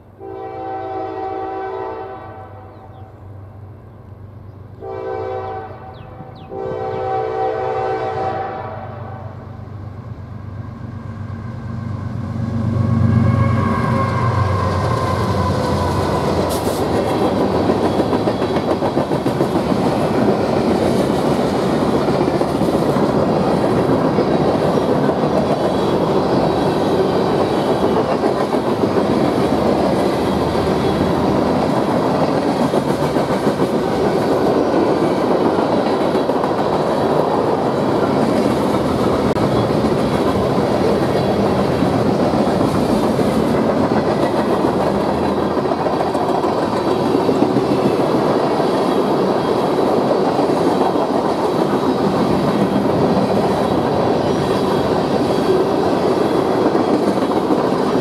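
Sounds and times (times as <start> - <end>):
freight train wheels rushing on rails: 0.0 - 58.0.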